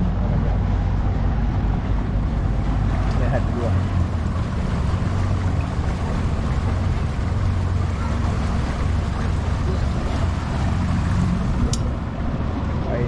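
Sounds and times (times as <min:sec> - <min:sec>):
motorboat engine humming: 0:00.0 - 0:13.0
water rushing: 0:00.0 - 0:13.0.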